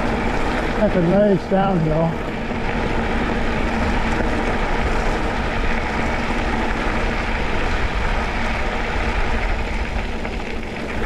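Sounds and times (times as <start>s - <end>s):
bike tyres rolling on dirt: 0.0s - 11.0s
wind rushing over microphone: 0.0s - 11.0s.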